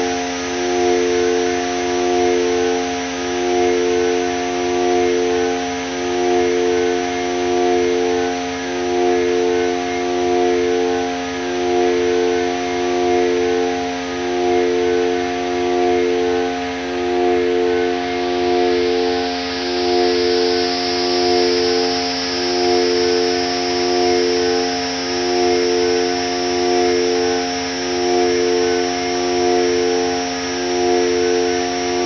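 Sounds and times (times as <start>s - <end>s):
pulsing synthesizer drone chord: 0.0s - 32.0s
thin high tone: 3.7s - 32.0s.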